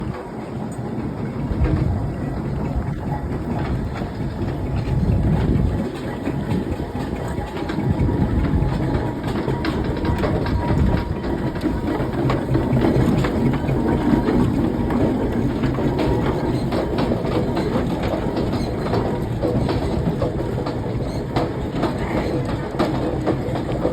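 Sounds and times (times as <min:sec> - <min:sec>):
steam engine rumbling: 0:00.0 - 0:23.9.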